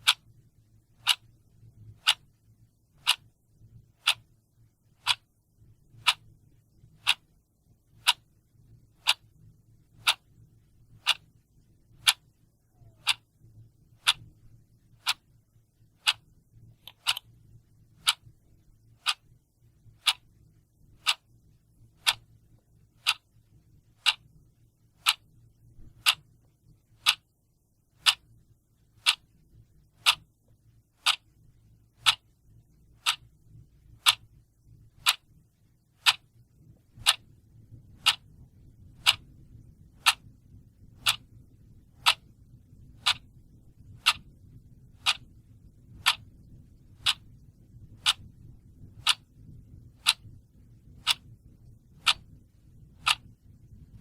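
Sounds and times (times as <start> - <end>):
clock ticking: 0.0 - 2.3, 3.0 - 4.3, 4.9 - 5.3, 5.9 - 7.3, 7.9 - 13.3, 13.9 - 15.4, 16.0 - 20.4, 21.0 - 22.4, 23.0 - 24.4, 25.0 - 27.3, 28.0 - 28.4, 29.0 - 29.3, 29.9 - 31.3, 32.0 - 35.4, 36.0 - 54.0
faint low background hum: 0.0 - 54.0.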